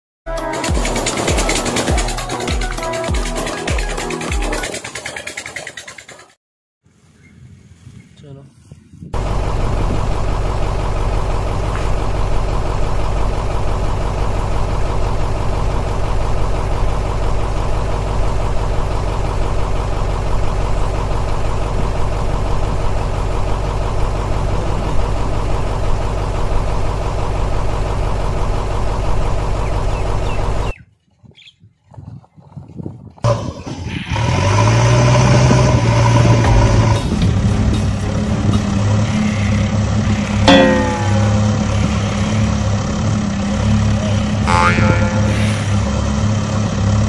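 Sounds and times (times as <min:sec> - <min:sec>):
vehicle engine running: 0:00.3 - 0:05.8, 0:09.2 - 0:30.7, 0:33.2 - 0:47.0.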